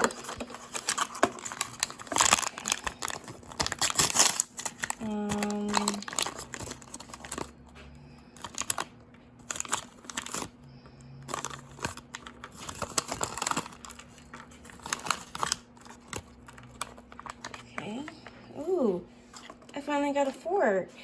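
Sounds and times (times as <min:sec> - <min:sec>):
plastic packaging crinkling and tearing: 0:00.0 - 0:18.4.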